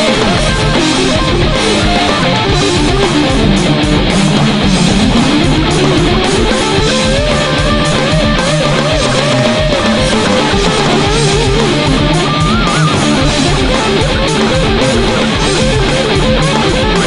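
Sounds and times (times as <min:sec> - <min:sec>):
electric guitar lead lines: 0:00.0 - 0:17.0
heavy metal backing track: 0:00.0 - 0:17.0.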